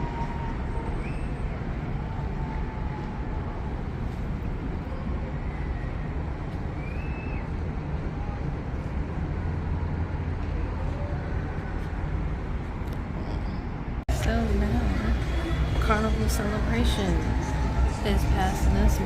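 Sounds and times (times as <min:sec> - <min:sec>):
low harbour rumble: 0:00.0 - 0:19.0.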